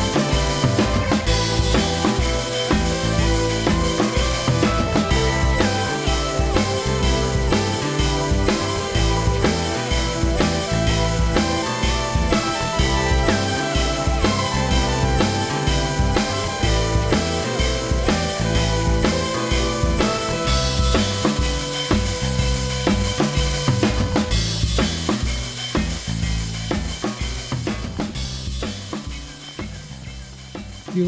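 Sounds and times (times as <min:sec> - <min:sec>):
rock music with drums and guitar: 0:00.0 - 0:31.0.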